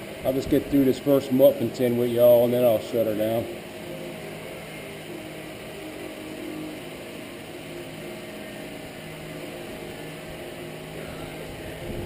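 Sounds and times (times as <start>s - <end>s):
low even hum: 0.0s - 12.0s.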